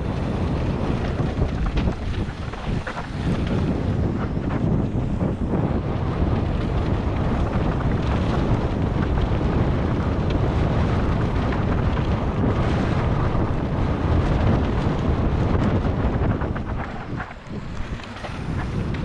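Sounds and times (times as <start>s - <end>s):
bike ticks and rattles: 0.0s - 19.0s
wind buffeting microphone: 0.0s - 19.0s.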